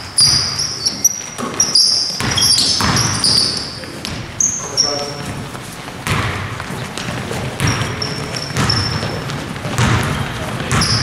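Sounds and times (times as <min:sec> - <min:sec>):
basketball bouncing: 0:00.0 - 0:04.5, 0:05.2 - 0:11.0
sneakers squeaking on gym floor: 0:00.0 - 0:11.0.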